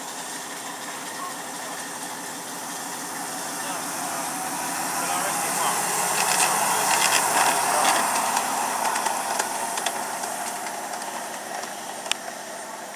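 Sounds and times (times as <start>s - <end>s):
miniature locomotive hissing: 0.0s - 12.9s.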